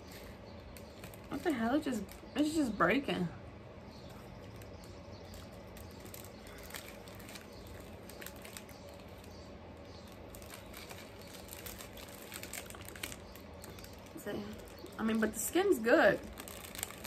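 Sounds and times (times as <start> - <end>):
plastic wrapper crackling: 0.0 - 3.1, 4.0 - 17.0
low steady hum: 0.0 - 17.0.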